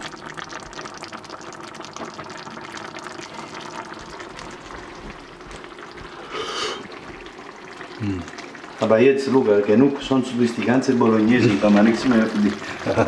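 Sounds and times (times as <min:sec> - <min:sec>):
sauce simmering and bubbling: 0:00.0 - 0:13.0.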